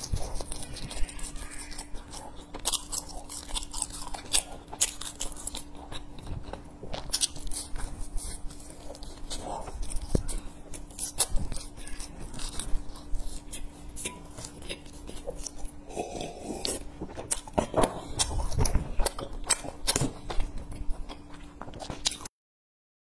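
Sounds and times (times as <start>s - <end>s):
chewing crunchy food: 0.0s - 22.3s.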